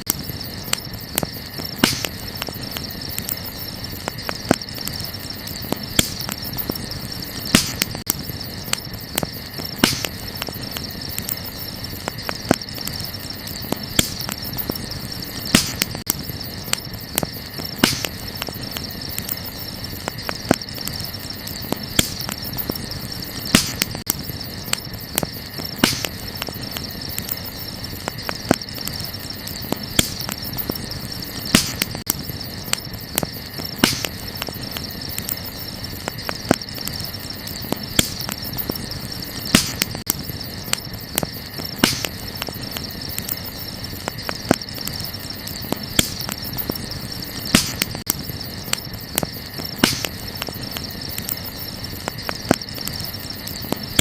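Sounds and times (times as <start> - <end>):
campfire crackling and popping: 0.0 - 54.0
crickets chirring: 0.0 - 54.0.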